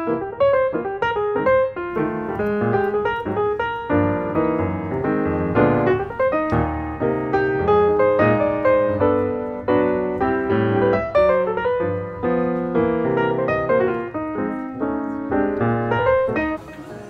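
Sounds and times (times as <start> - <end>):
piano melody over chords: 0.0 - 17.0.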